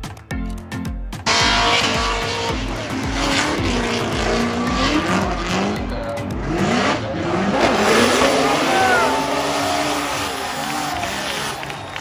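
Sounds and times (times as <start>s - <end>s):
car engines revving: 1.2s - 12.0s.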